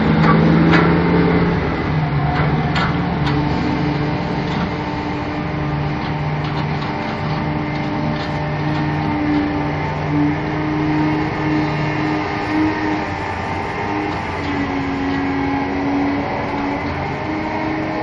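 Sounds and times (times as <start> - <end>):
large diesel engines running: 0.0 - 18.0.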